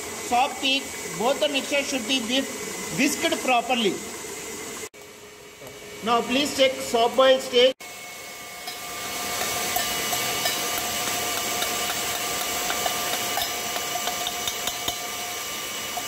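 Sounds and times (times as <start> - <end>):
stand mixer whirring: 0.0 - 4.9, 5.9 - 16.0.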